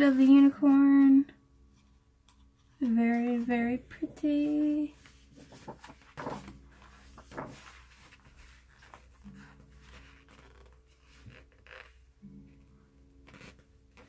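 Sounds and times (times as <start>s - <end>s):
book pages rustling: 0.0s - 12.6s, 13.2s - 14.0s.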